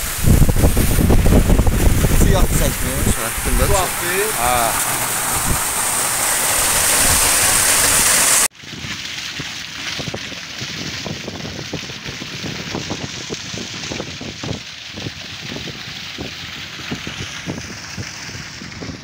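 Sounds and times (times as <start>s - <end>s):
water gushing from a vent: 0.0s - 19.0s
water splashing outflow: 0.0s - 19.0s.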